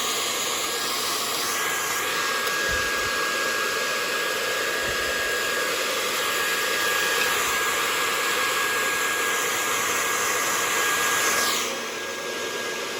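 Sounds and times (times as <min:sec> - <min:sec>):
hair dryer blowing: 0:00.0 - 0:12.9.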